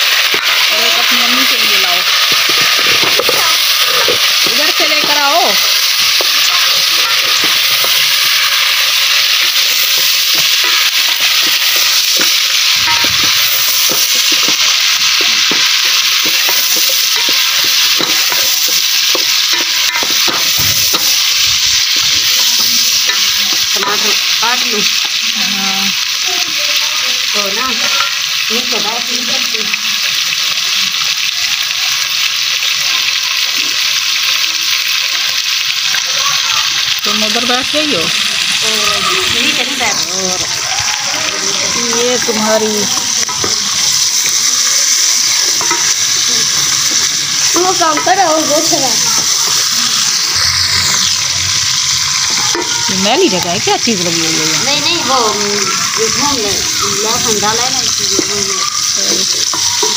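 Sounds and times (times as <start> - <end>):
chicken frying in hot oil: 0.0 - 59.9.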